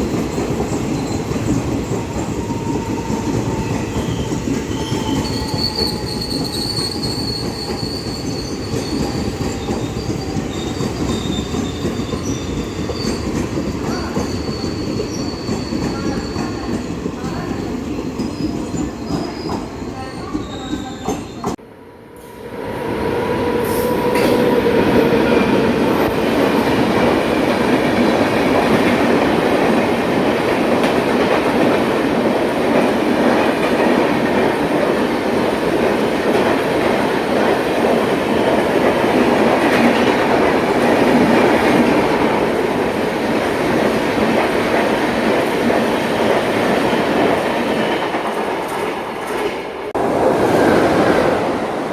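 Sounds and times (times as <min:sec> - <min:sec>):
train passing close: 0:00.0 - 0:51.9
train rumbling on rails: 0:00.0 - 0:51.9.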